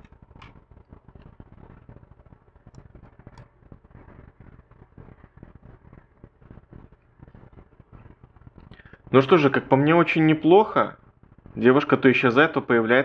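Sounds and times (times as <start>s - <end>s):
faint low rumbling: 0.0s - 13.0s.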